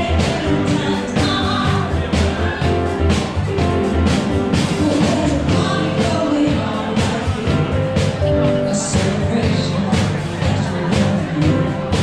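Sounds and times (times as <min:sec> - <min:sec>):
person singing over a beat: 0:00.0 - 0:12.0.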